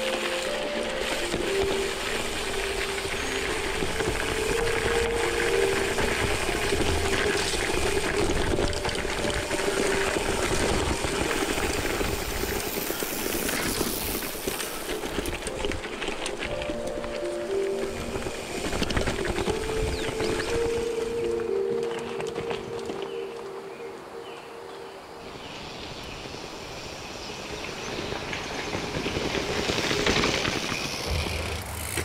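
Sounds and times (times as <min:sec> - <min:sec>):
bike tyres crunching gravel: 0:00.0 - 0:32.0.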